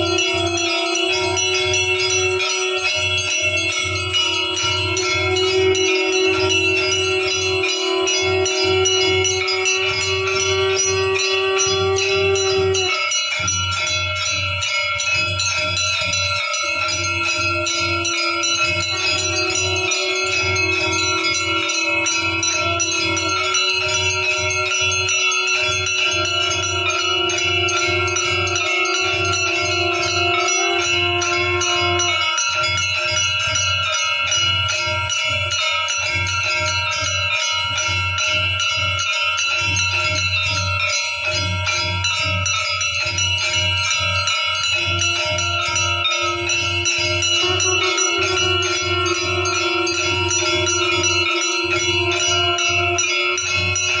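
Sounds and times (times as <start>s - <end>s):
long held tone: 0.0s - 33.7s, 43.6s - 54.0s
bells ringing rapidly: 0.0s - 54.0s.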